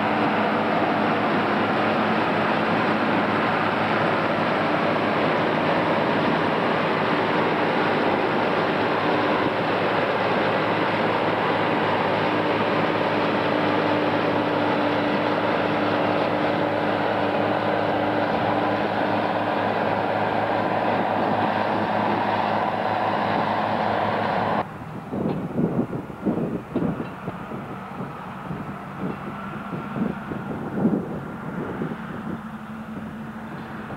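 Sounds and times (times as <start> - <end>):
tractors running under load: 0.0 - 33.9.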